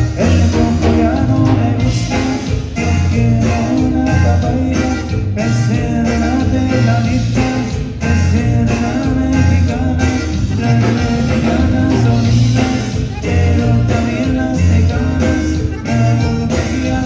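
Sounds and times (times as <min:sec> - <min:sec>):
button accordion: 0:00.0 - 0:17.0
live band playing: 0:00.0 - 0:17.0
pulsing bass line: 0:00.0 - 0:17.0.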